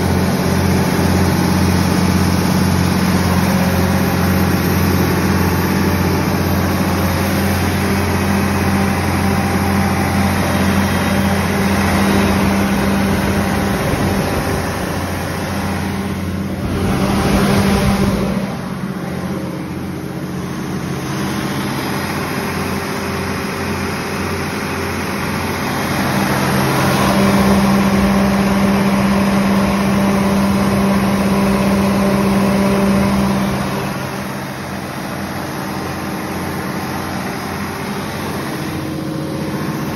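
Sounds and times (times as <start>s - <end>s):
diesel generator engine humming: 0.0s - 39.9s.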